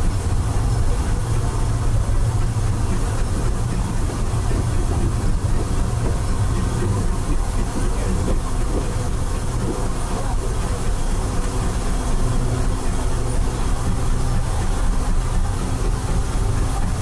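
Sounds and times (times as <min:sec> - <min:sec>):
train rumbling on the track: 0:00.0 - 0:17.0.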